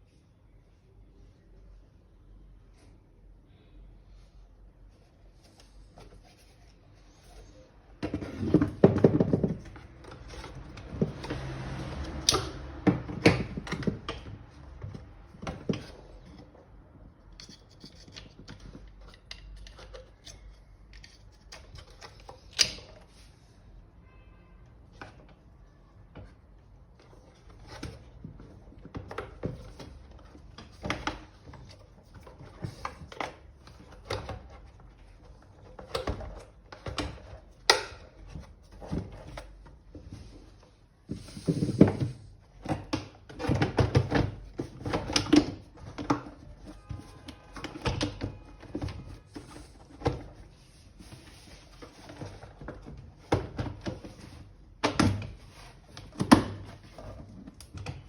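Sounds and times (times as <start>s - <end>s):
plastic parts clicking and scraping: 5.3s - 23.2s, 26.1s - 58.0s.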